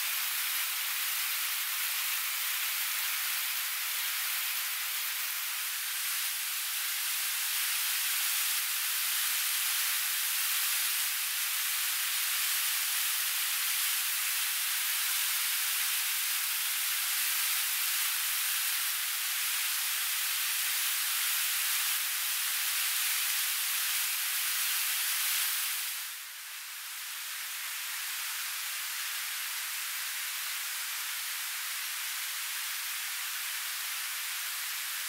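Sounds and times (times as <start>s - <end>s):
fritters sizzling in hot oil: 0.0s - 35.0s.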